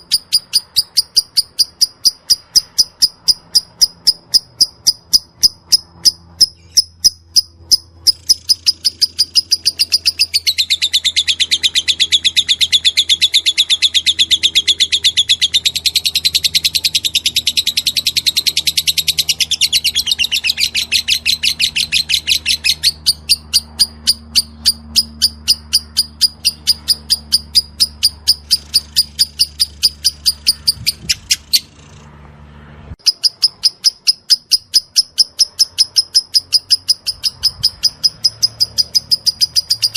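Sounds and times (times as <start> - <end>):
lovebird chirping: 0.0 - 32.0, 33.0 - 39.9
lovebird rattling trill: 0.0 - 32.0, 33.0 - 39.9.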